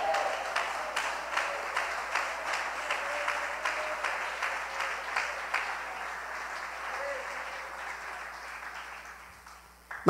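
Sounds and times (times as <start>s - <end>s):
congregation clapping in rhythm: 0.0s - 10.0s.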